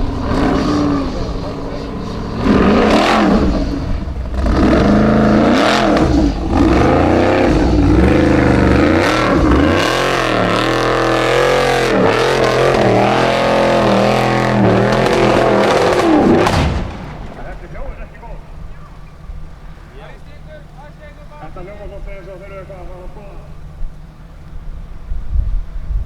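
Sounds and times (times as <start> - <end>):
buggy engine revving: 0.0 - 25.9.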